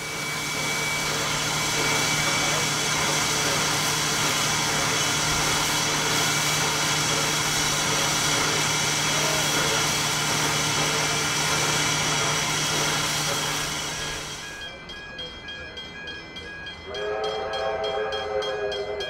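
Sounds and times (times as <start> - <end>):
steam locomotive standing in steam: 0.0 - 19.0.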